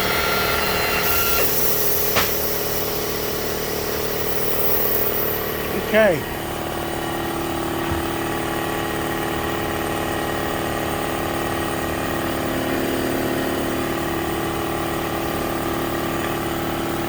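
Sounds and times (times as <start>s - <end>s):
shop machine humming: 0.0s - 17.0s.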